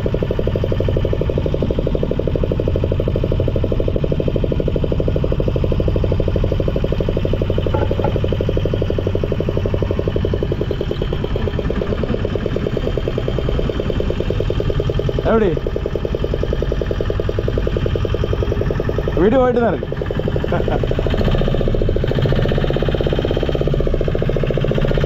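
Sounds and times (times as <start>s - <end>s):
outboard motor puttering: 0.0s - 25.0s.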